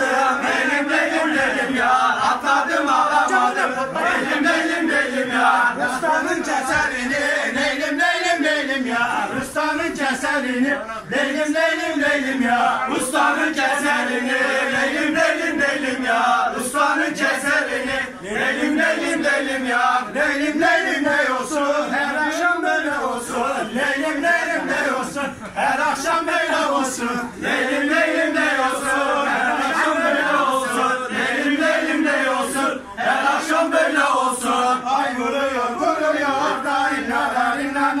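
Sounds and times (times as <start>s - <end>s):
men singing folk song in unison: 0.0s - 38.0s.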